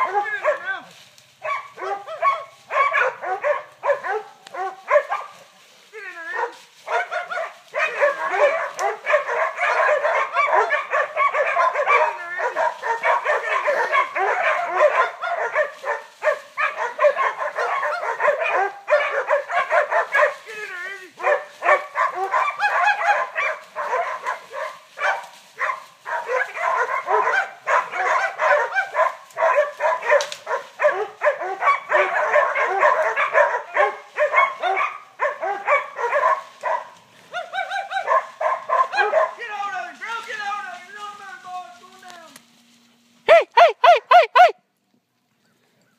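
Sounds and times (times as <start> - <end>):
dogs barking and yipping: 0.0 - 39.5, 43.2 - 44.6.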